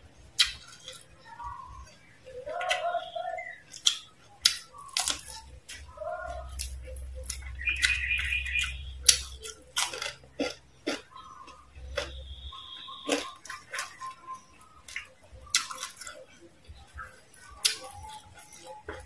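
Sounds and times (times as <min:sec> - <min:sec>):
crunching and chewing fried food: 0:00.0 - 0:19.0.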